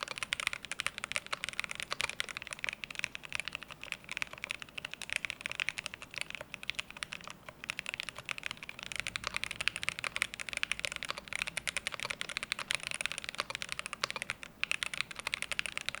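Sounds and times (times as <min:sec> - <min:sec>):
mechanical keyboard typing: 0:00.0 - 0:16.0.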